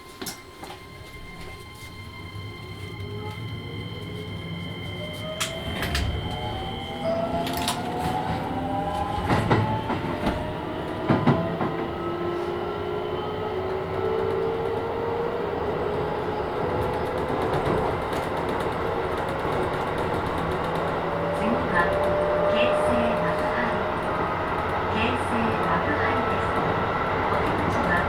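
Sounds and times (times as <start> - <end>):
electric train motors whining: 2.0 - 28.0.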